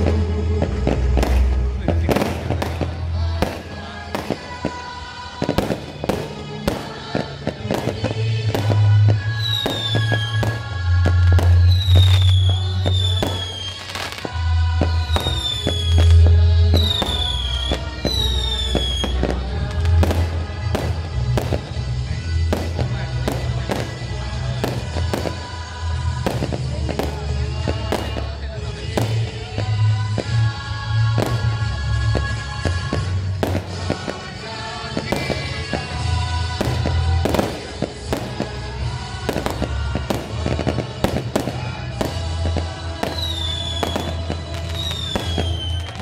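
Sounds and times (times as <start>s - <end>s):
fireworks bangs and crackles: 0.0s - 46.0s
loud music with heavy bass: 0.0s - 46.0s.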